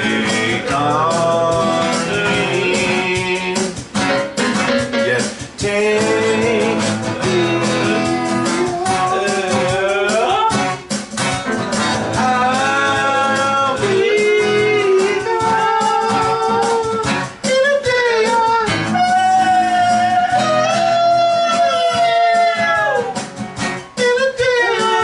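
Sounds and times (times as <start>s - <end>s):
person singing: 0.0s - 3.9s, 4.9s - 10.7s, 12.0s - 23.2s, 23.9s - 25.0s
strummed guitar: 0.0s - 25.0s.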